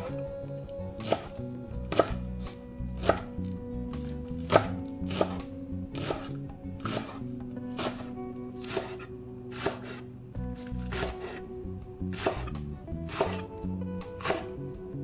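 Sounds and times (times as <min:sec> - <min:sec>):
knife chopping on wooden board: 0:01.0 - 0:10.0, 0:10.6 - 0:11.4, 0:12.0 - 0:14.6.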